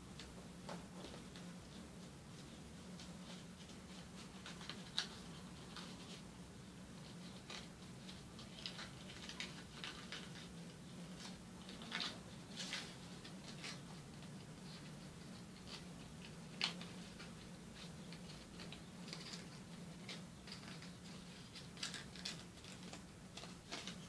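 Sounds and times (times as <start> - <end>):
paper rustling and crinkling: 0.7 - 6.3, 6.9 - 24.0
paper crackle: 3.0 - 6.2, 7.0 - 24.0.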